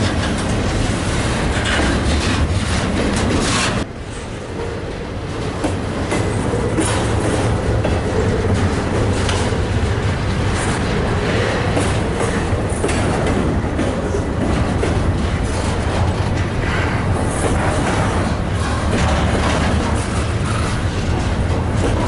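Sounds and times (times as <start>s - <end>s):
freight train wheels rumbling: 0.0s - 22.0s
wheels clacking over rail joints: 0.0s - 22.0s.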